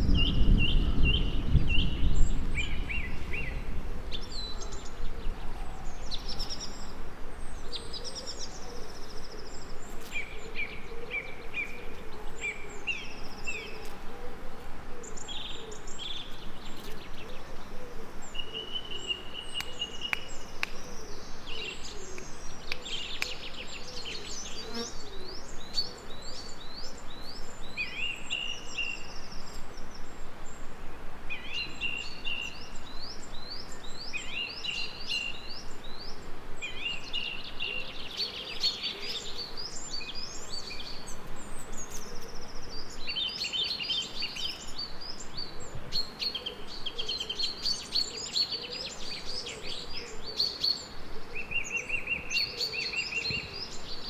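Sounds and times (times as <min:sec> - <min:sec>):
background hiss: 0:00.0 - 0:54.0
songbirds chirping and trilling: 0:00.0 - 0:54.0.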